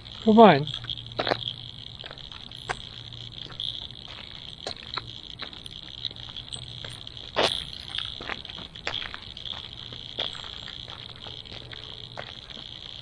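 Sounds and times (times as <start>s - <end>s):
footsteps on gravel: 0.0s - 13.0s
frog chorus: 0.0s - 13.0s.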